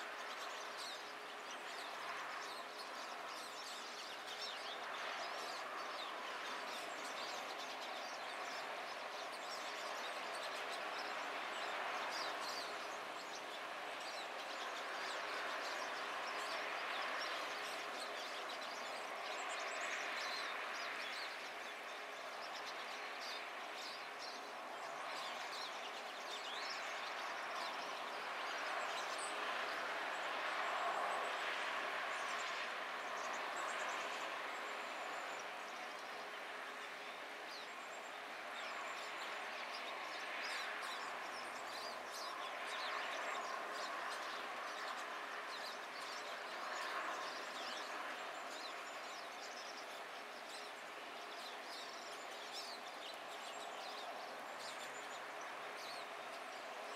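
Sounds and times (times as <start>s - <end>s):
traffic hiss on bridge: 0.0s - 56.9s.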